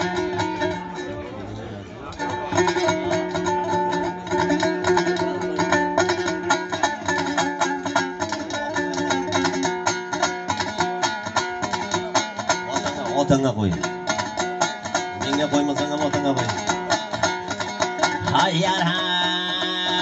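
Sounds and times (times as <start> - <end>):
lute strummed fast: 0.0 - 20.0.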